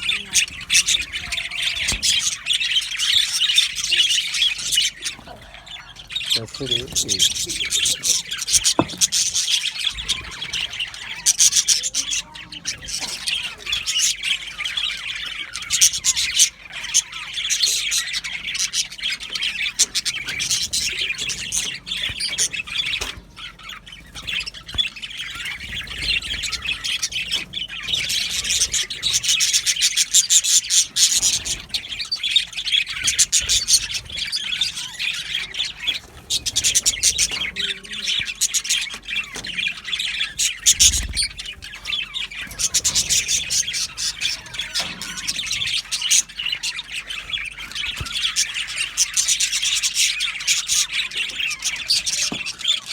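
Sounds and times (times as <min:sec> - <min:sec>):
budgerigars chattering: 0:00.0 - 0:52.9.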